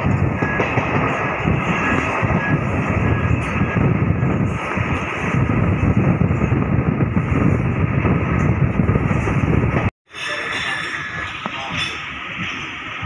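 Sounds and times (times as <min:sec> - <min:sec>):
moving train rumble and rush: 0:00.0 - 0:13.0.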